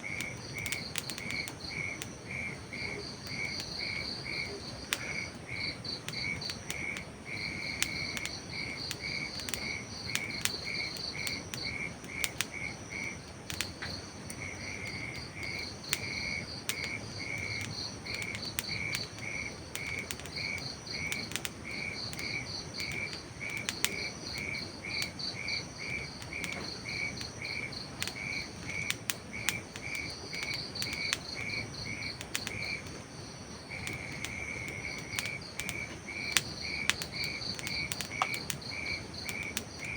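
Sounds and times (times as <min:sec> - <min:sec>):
cricket chirping: 0:00.0 - 0:39.9
sharp crackles: 0:00.1 - 0:39.9.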